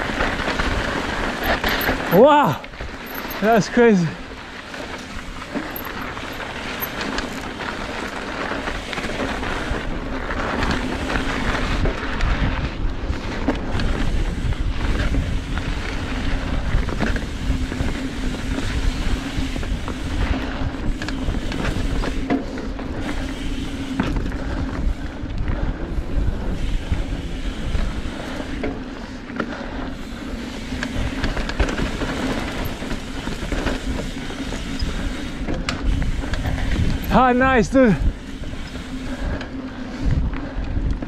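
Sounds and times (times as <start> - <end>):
bike rattling over bumps: 0.0 - 41.0
bike tyres rolling on dirt: 0.0 - 41.0
wind buffeting microphone: 0.0 - 41.0.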